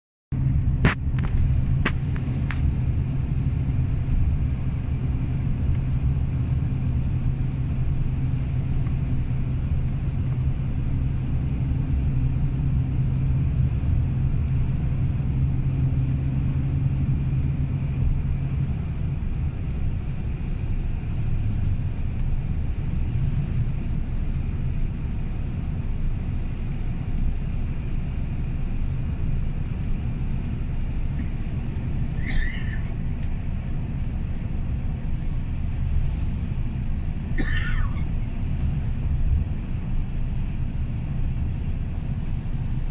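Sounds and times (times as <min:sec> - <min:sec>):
bus engine and road rumble: 0:00.3 - 0:42.9
steady engine hum: 0:00.3 - 0:42.9.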